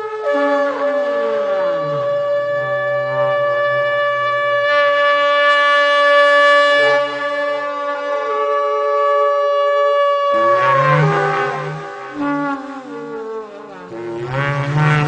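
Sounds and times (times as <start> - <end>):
eerie trumpet-like drone: 0.0 - 15.0.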